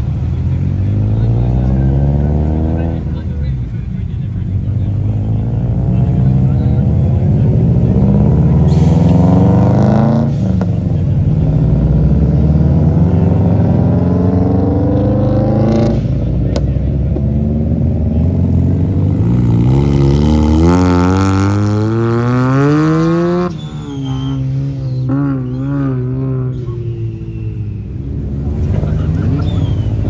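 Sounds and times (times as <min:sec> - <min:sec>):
car engine accelerating hard: 0:00.0 - 0:30.0.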